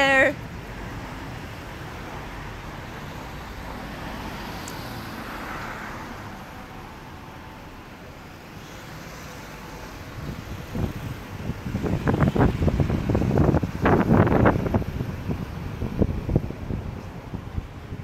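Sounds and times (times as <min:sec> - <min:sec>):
road traffic noise: 0:00.0 - 0:18.0
car passing by: 0:00.7 - 0:18.0.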